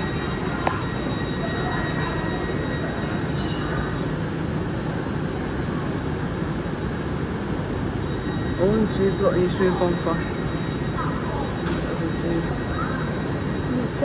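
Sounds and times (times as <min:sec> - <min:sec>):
faint high whine: 0:00.0 - 0:14.0
train rumbling: 0:00.0 - 0:14.0.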